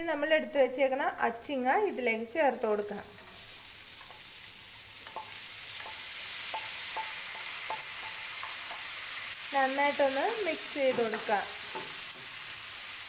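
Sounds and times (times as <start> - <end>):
beans sizzling in hot oil: 0.0 - 13.0.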